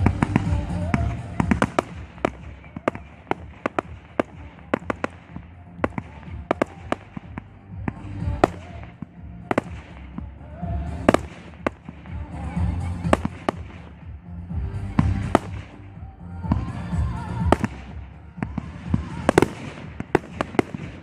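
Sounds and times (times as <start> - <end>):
fireworks bursting: 0.0 - 21.0
low rumble: 0.0 - 21.0.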